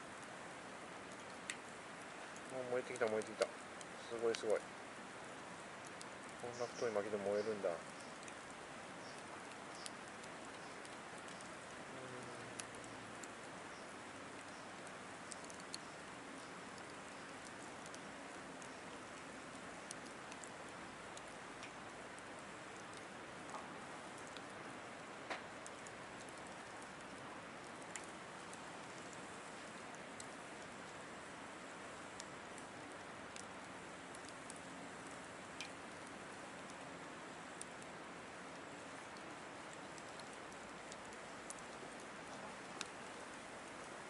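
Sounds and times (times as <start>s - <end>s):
logs crackling and popping: 0.0s - 44.0s
wood fire hissing: 0.0s - 44.0s.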